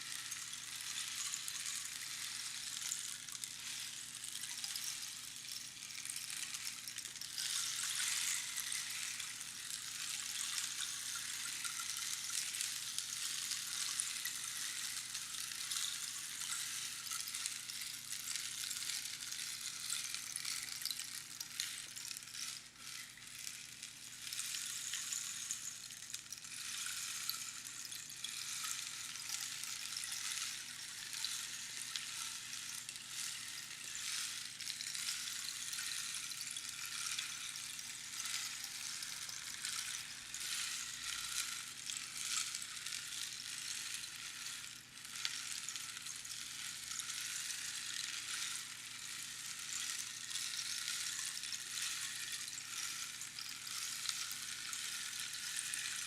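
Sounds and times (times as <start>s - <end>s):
rainstick pebbles trickling: 0.0s - 56.0s.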